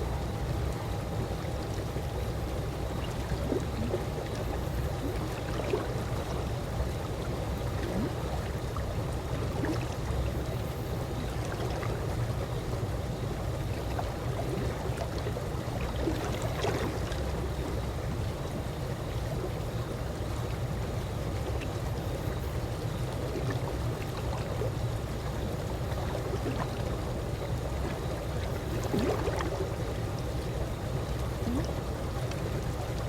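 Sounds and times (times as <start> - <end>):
pool water lapping: 0.0 - 33.0.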